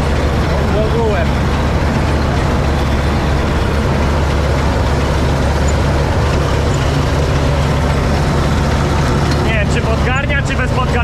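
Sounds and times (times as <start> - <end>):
combine harvester engine hum: 0.0 - 11.0.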